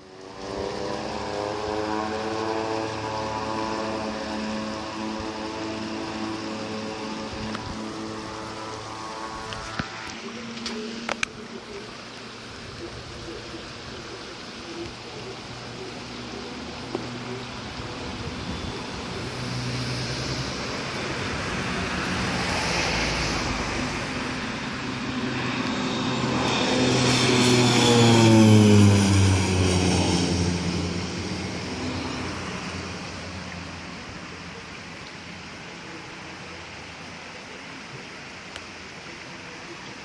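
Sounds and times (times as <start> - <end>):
propeller aircraft passing: 0.0 - 37.8.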